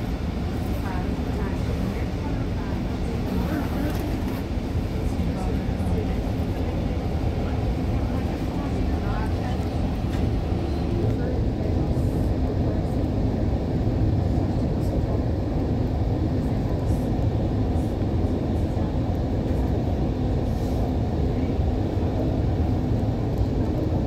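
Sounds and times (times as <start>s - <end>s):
electric train rumbling: 0.0s - 23.9s.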